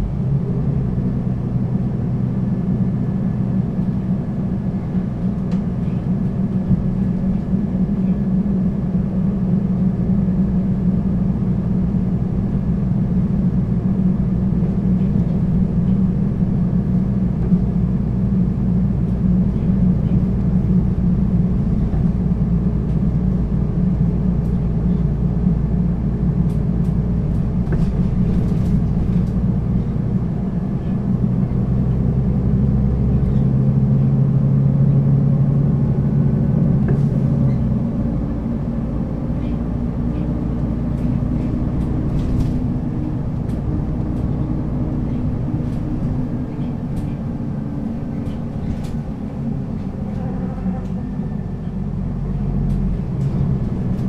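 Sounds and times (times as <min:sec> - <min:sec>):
bus diesel engine droning: 0:00.0 - 0:54.0
low hum: 0:00.0 - 0:54.0.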